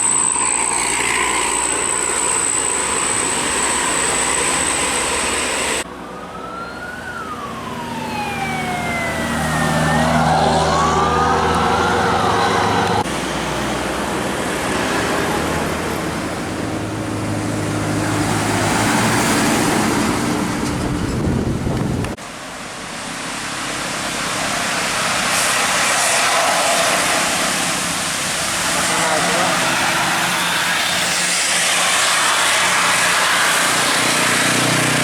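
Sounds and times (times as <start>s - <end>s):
bus engine and road noise: 0.0s - 35.0s
traffic noise: 0.0s - 35.0s.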